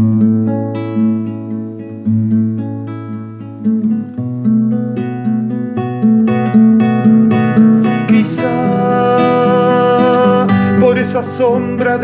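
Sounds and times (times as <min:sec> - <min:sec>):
classical guitar playing: 0:00.0 - 0:12.0.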